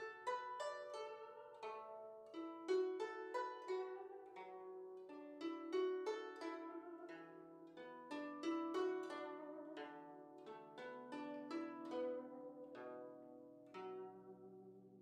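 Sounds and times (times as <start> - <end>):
slow plucked string music: 0.0 - 15.0.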